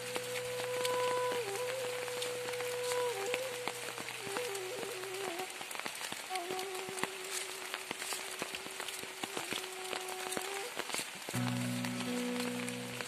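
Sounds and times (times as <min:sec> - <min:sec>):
flute melody: 0:00.0 - 0:13.0
heavy rain falling: 0:00.0 - 0:13.0.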